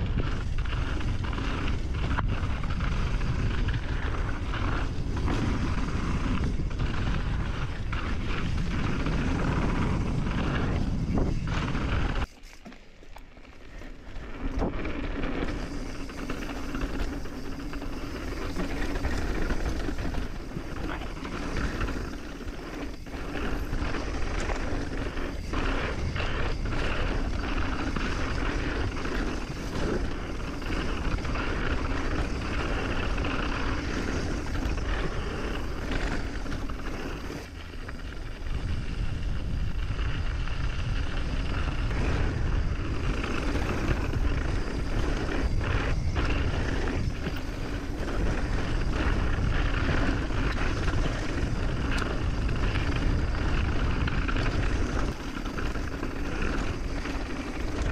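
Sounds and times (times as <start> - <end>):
wind on microphone: 0.0 - 12.5, 13.6 - 57.9
tyres on dirt: 0.0 - 57.9.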